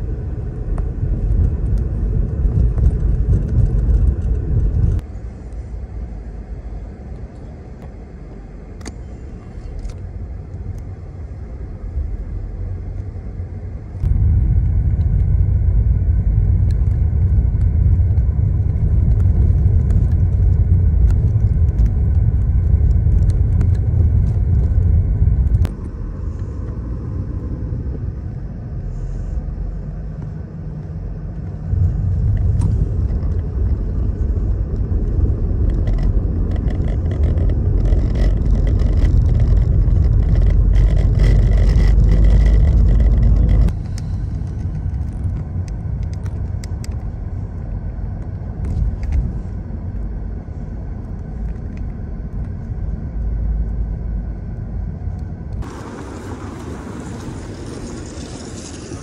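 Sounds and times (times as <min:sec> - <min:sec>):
passing car traffic rumble: 0:00.0 - 0:59.0.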